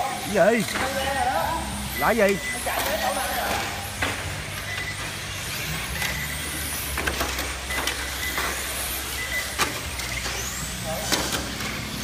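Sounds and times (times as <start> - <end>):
model car motors whining: 0.0 - 12.0.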